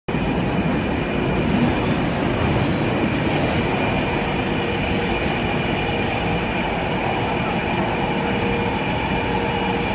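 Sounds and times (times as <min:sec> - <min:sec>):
train wheels rumbling on rail: 0:00.1 - 0:09.9.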